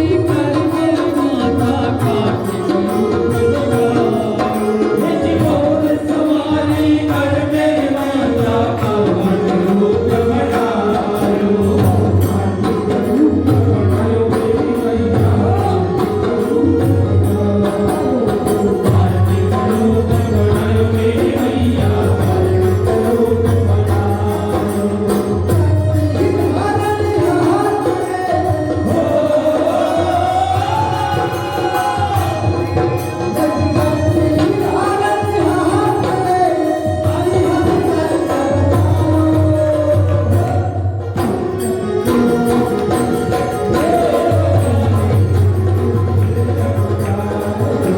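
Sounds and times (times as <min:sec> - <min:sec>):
jingling percussion: 0:00.0 - 0:47.9.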